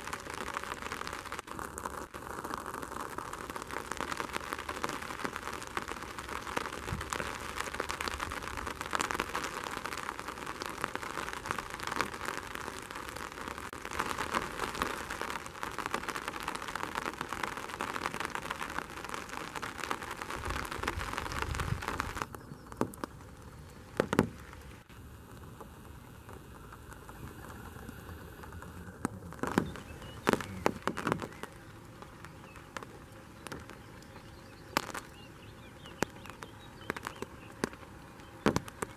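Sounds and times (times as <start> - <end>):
dense crackling patter: 0.0 - 38.9.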